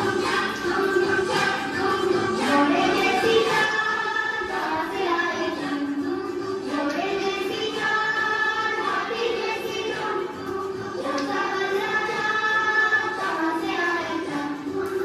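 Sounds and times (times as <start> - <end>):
person singing over music: 0.0 - 15.0.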